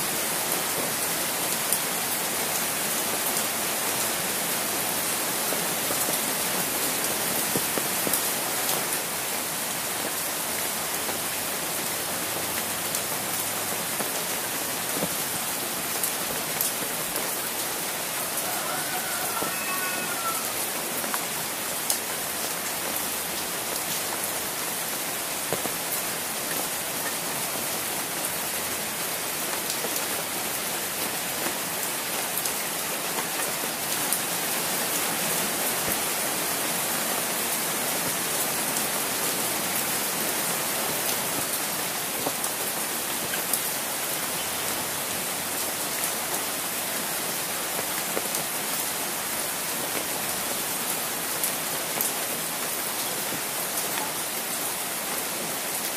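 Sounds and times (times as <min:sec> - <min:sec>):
rain hissing on an umbrella: 0:00.0 - 0:55.9.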